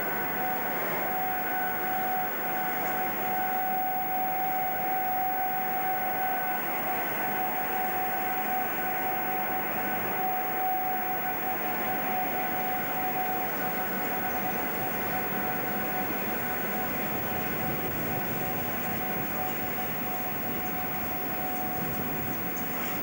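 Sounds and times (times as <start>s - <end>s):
electric locomotive whine: 0.0s - 23.0s.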